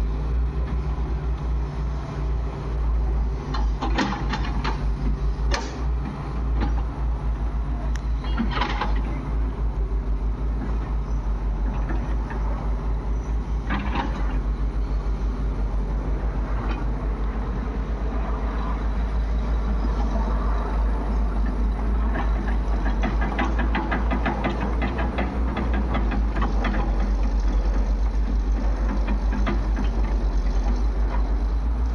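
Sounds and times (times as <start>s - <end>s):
diesel engine throbbing: 0.0s - 31.9s.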